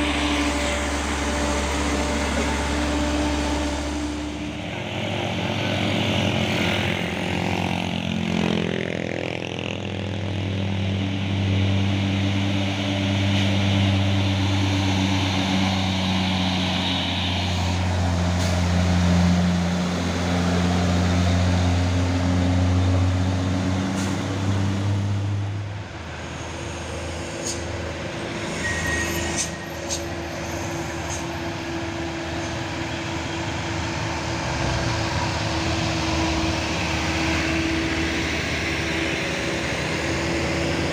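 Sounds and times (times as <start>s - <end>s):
heavy truck engine labouring: 0.0s - 40.9s.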